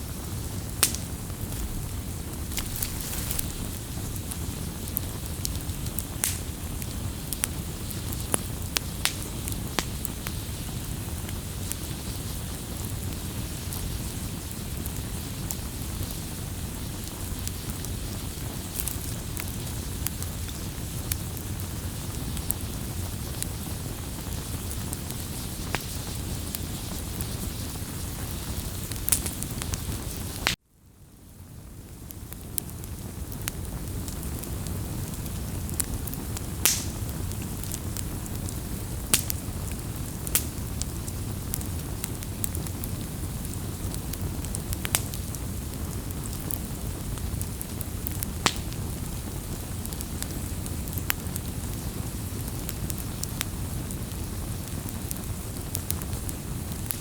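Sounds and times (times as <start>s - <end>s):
campfire crackling: 0.0s - 30.6s, 31.2s - 57.0s.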